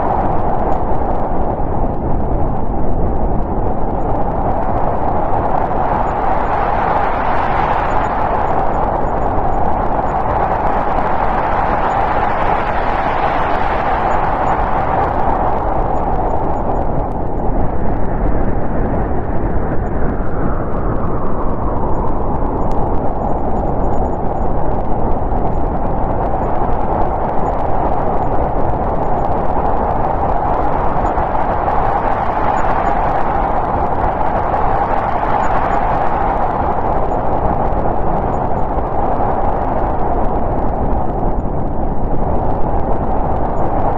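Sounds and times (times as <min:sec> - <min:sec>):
strong wind rushing: 0:00.0 - 0:43.9.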